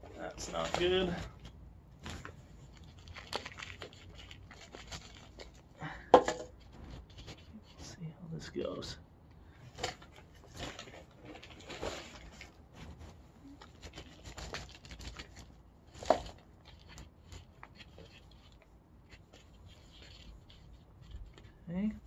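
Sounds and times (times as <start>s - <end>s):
rustling: 0.0s - 8.0s, 9.5s - 22.0s.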